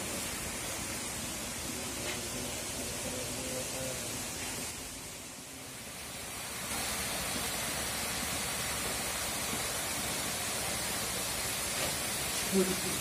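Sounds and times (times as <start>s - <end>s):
water pouring into tanks: 0.0s - 13.0s.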